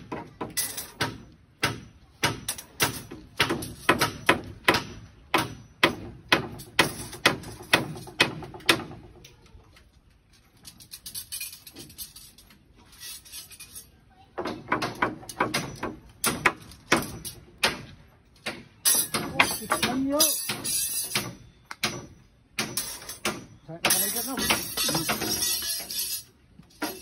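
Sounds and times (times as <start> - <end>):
steel rebar clinking: 0.0 - 9.3, 10.3 - 27.0.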